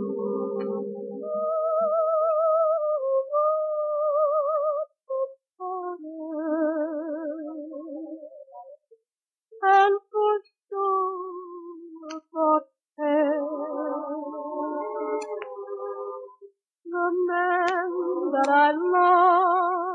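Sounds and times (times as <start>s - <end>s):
slow instrumental melody on record: 0.0s - 9.0s, 10.2s - 19.9s.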